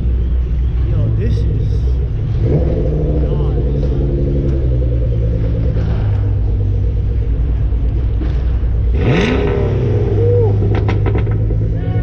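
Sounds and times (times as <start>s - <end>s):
car engine idling: 0.0s - 12.0s
engine throttle blips: 0.0s - 12.0s.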